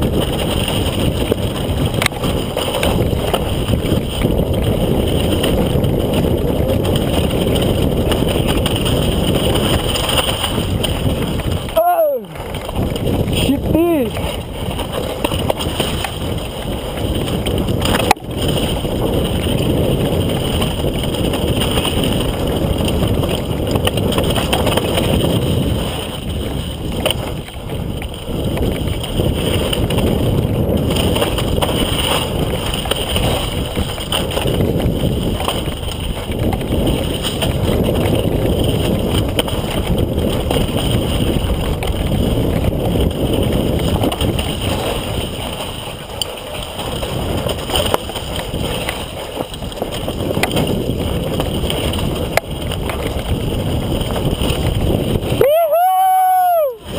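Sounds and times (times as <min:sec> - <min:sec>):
bike rattling over rough ground: 0:00.0 - 0:56.9
wind rushing over microphone: 0:00.0 - 0:56.9.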